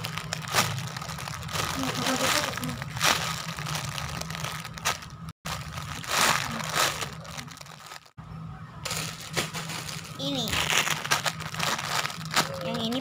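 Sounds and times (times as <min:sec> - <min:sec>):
plastic bag crinkling: 0:00.0 - 0:08.2, 0:08.9 - 0:13.0.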